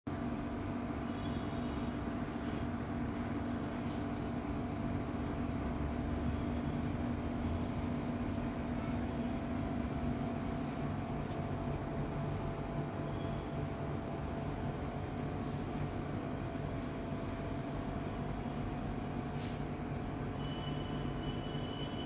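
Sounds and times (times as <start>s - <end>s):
low mechanical hum: 0.1s - 22.0s.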